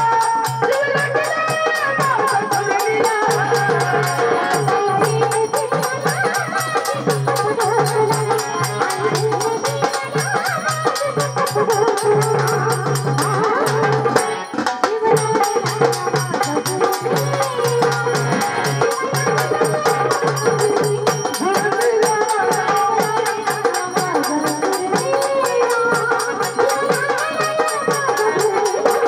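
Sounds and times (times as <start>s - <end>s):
folk music with fast percussion: 0.0s - 29.0s.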